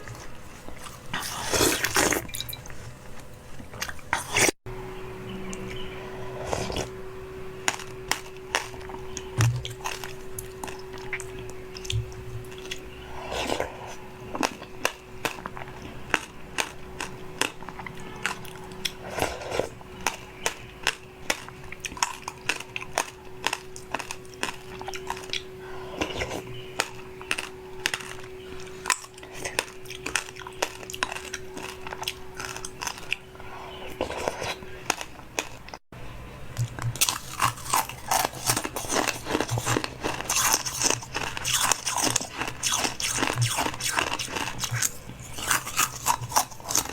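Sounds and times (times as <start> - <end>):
eating crunches: 0.0 - 4.6, 7.6 - 35.8, 36.6 - 46.9
steady hum: 0.0 - 46.9.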